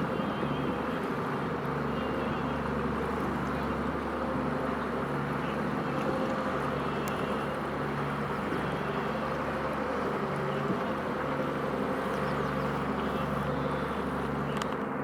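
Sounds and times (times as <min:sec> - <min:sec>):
low engine drone: 0:00.1 - 0:14.8.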